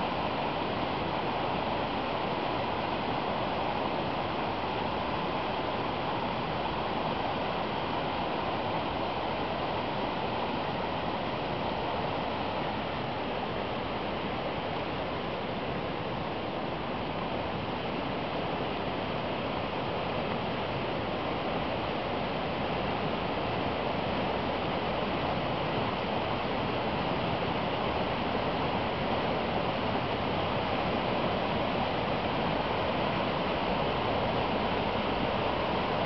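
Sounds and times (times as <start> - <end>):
water rushing down brook falls: 0.0 - 36.0.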